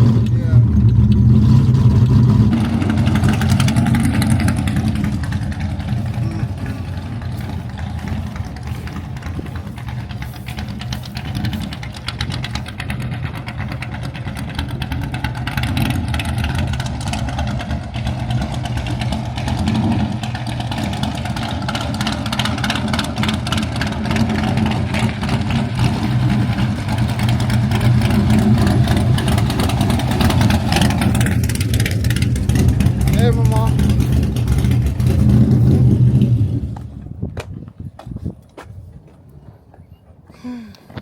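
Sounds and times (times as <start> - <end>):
car engine running: 0.0 - 37.7.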